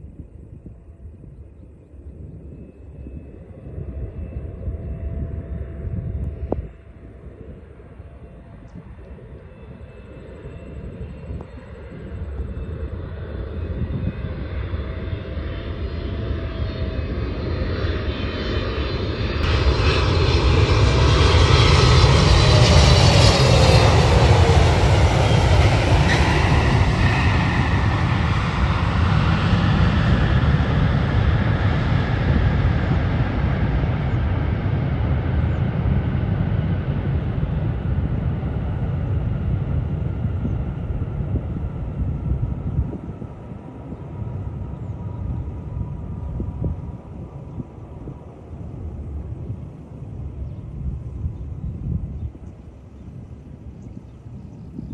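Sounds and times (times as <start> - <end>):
jet engines roaring: 2.4 - 54.8.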